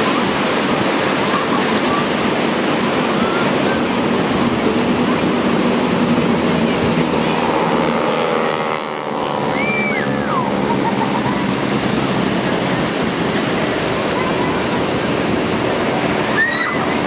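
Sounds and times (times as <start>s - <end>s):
propeller plane drone: 0.0s - 17.0s
surf rushing: 0.0s - 17.0s
wind: 0.0s - 17.0s.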